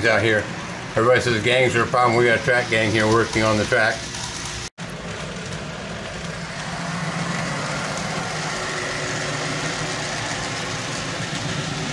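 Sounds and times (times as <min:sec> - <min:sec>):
model train running on track: 0:01.2 - 0:11.9.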